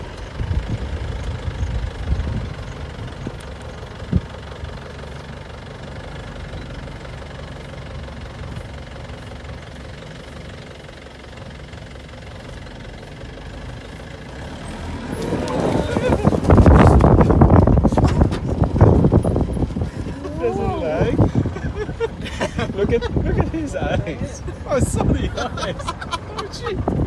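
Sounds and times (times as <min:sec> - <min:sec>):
jeep engine idling: 0:00.0 - 0:27.0.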